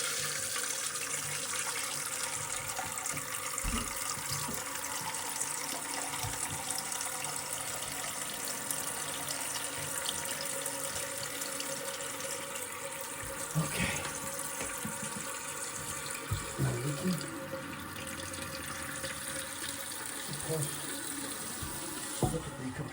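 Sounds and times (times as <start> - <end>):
water running into toilet tank: 0.0 - 22.9.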